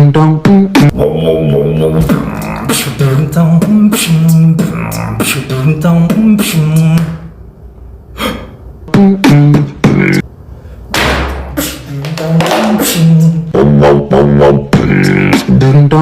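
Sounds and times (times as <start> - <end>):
mouth beatboxing: 0.0 - 7.3, 8.2 - 10.3, 11.4 - 16.0.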